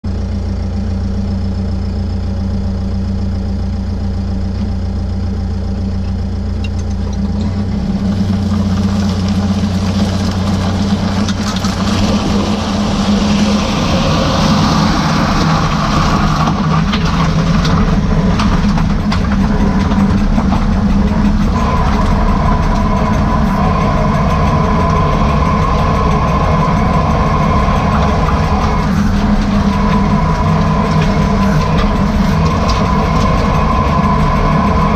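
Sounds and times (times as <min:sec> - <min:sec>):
steady differential whine: 0:00.0 - 0:34.9
van engine running: 0:00.0 - 0:34.9.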